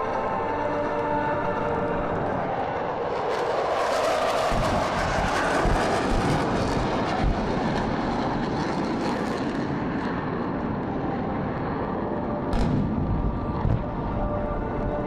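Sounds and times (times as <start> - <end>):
jet engines roaring overhead: 0.0 - 15.0.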